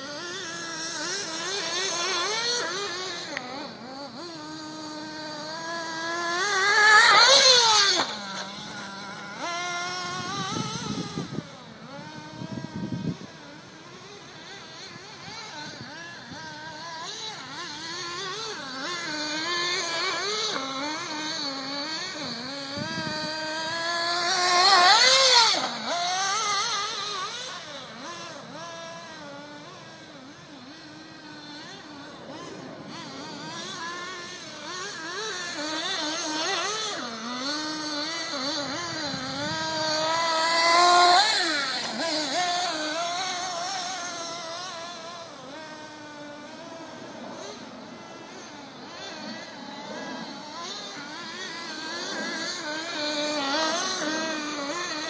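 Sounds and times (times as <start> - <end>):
toy buggy motor revving: 0.0 - 55.0.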